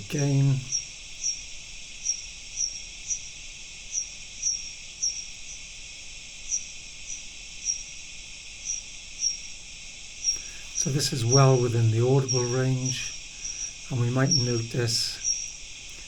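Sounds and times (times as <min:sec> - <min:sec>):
bat echolocation chirps: 0:00.0 - 0:16.0
steady hiss: 0:00.0 - 0:16.0.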